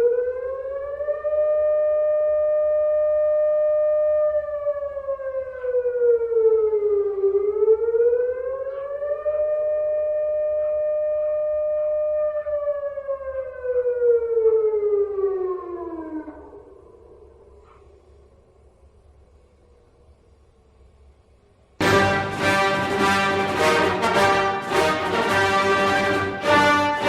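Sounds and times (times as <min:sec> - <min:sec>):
air-raid siren wailing: 0:00.0 - 0:17.3, 0:21.8 - 0:27.0.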